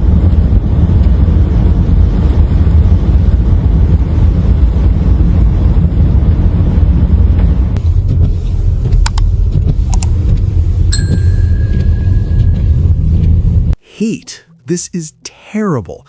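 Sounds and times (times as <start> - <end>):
low rumbling roar: 0.0 - 13.8.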